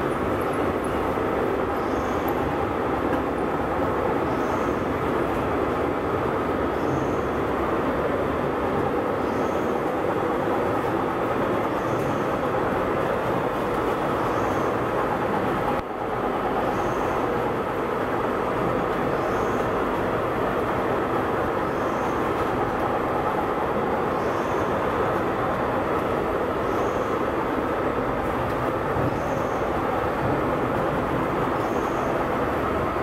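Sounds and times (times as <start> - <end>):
factory machinery running: 0.0 - 33.0.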